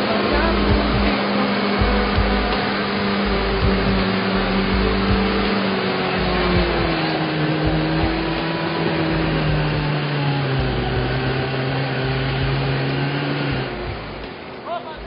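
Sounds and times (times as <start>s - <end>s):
off-road engines revving: 0.0s - 15.0s
tyres churning mud: 0.0s - 15.0s.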